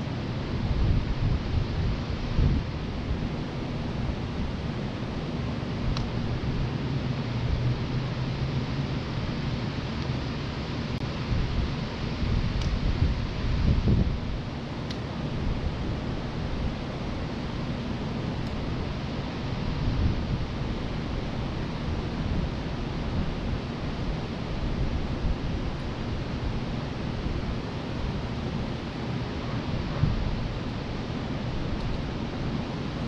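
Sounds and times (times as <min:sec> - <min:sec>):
wind buffeting microphone: 0:00.0 - 0:08.1, 0:11.1 - 0:33.0
electric fans running: 0:00.0 - 0:33.0.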